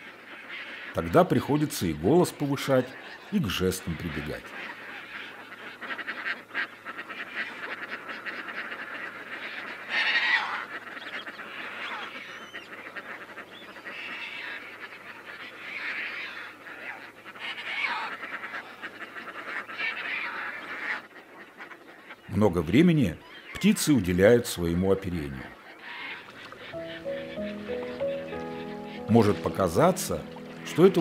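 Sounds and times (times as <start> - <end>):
terns calling in a colony: 0.0 - 31.0.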